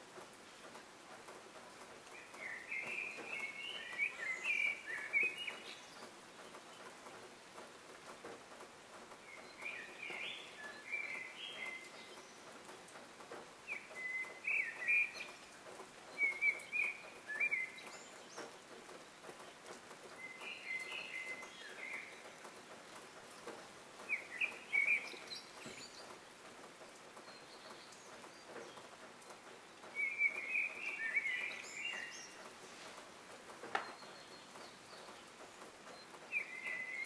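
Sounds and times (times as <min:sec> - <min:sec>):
faint outdoor hiss: 0:00.0 - 0:37.0
songbird singing: 0:00.0 - 0:37.0.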